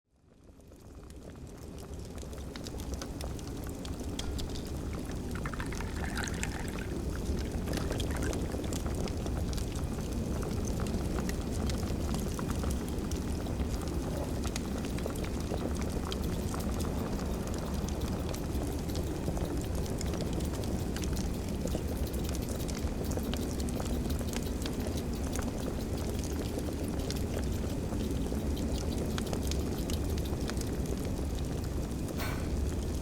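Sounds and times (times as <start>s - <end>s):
fire crackling and popping: 0.3s - 33.0s.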